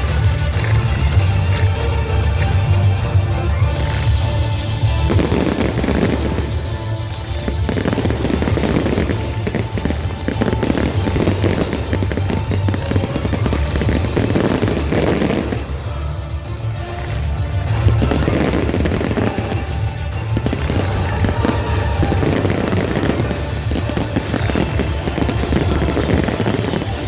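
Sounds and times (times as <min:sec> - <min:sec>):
background music: 0:00.0 - 0:27.0
fireworks bursting and crackling: 0:00.0 - 0:27.0.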